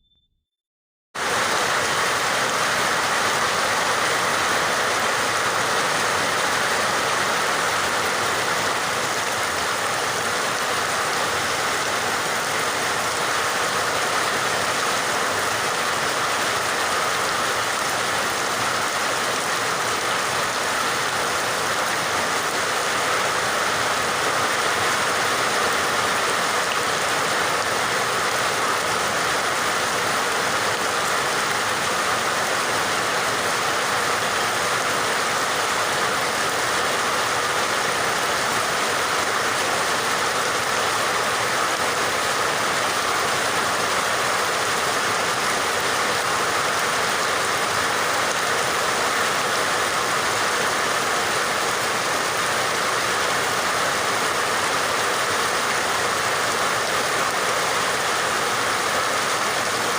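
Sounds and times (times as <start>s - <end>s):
steady rain: 1.2s - 59.9s.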